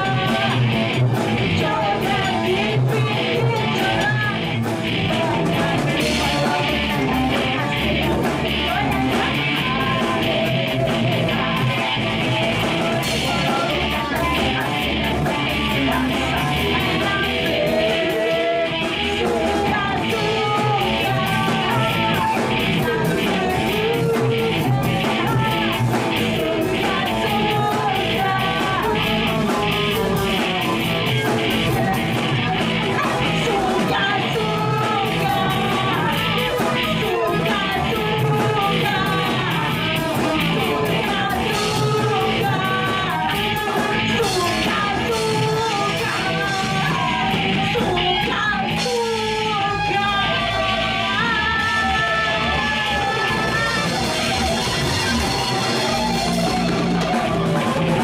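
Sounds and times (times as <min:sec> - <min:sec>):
drum kit beat: 0:00.0 - 0:58.0
electric guitars: 0:00.0 - 0:58.0
women singing: 0:00.0 - 0:58.0.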